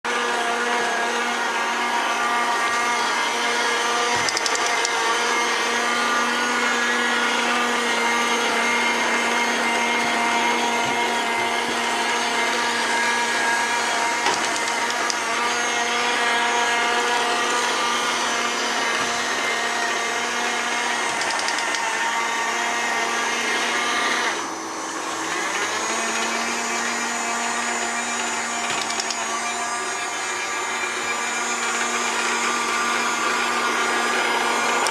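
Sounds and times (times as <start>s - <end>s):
robot vacuum cleaner whine: 0.1s - 34.9s.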